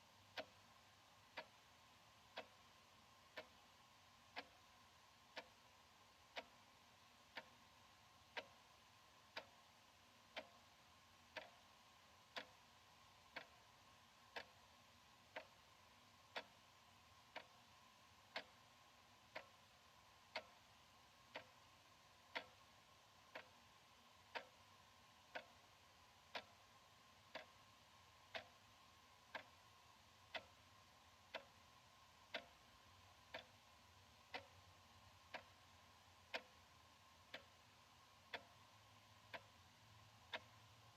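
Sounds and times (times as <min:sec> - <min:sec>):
wall clock ticking: 0:00.0 - 0:40.9.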